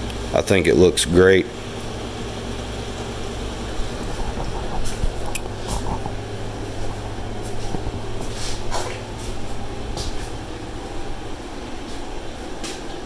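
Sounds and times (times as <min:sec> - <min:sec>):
shop fan humming: 0:00.0 - 0:13.0.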